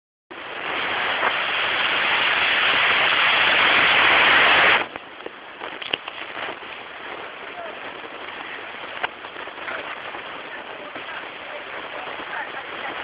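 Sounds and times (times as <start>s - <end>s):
loud steady hiss: 0.3s - 13.0s.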